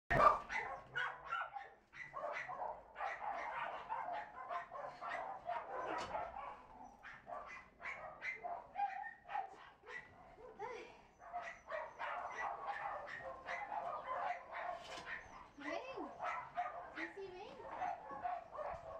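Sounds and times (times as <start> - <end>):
dogs barking: 0.1 - 18.9.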